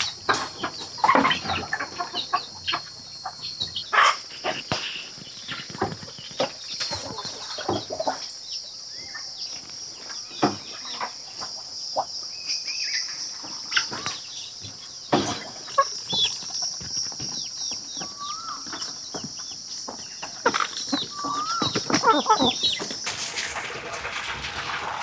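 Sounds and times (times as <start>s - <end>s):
chickens clucking: 0.0s - 8.4s, 13.0s - 25.0s
small birds chirping: 0.0s - 23.0s
insect drone: 0.0s - 25.0s.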